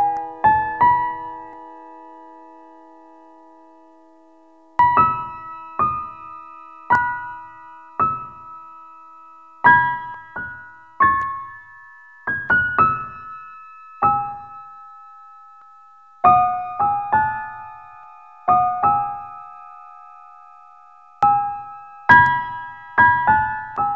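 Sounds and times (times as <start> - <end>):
slow piano melody: 0.0 - 23.9.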